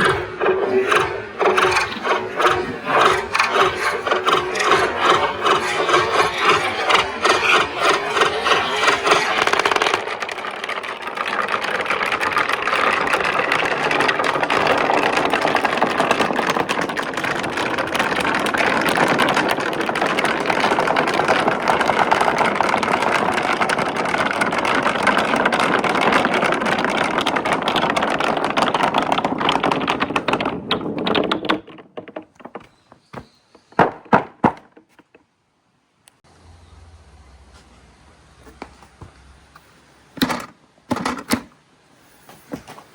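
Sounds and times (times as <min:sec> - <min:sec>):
marbles clattering on track: 0:00.0 - 0:35.2
marbles rolling rumble: 0:00.0 - 0:35.2.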